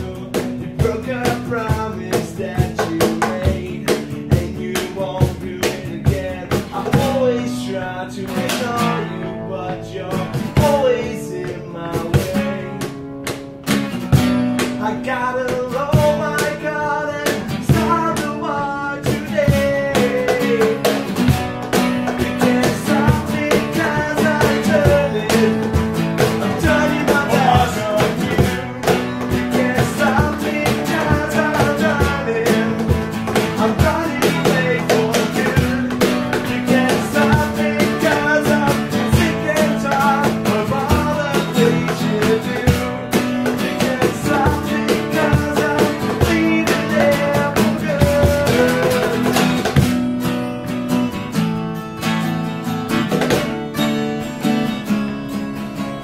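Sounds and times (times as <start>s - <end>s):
acoustic guitars playing: 0.0s - 56.0s
cajon beat: 0.0s - 56.0s.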